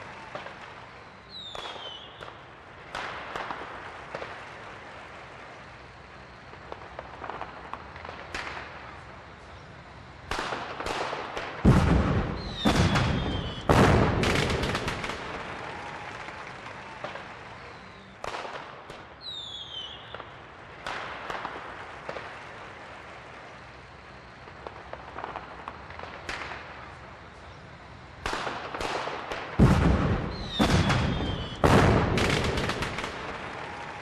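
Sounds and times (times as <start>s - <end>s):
falling firework whistles: 0.0s - 4.6s, 5.5s - 34.0s
fireworks bangs and crackle: 0.0s - 34.0s.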